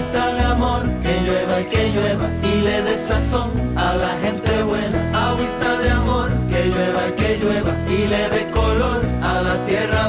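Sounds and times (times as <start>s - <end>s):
guitar music with bass notes: 0.0s - 10.0s.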